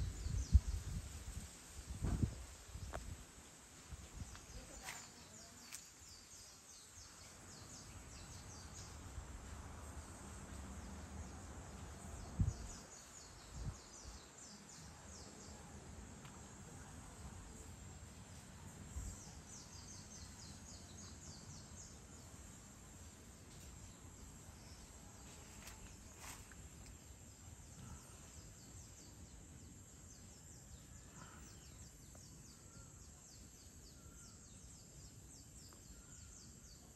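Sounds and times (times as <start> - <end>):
insects chirping: 0.0 - 36.9.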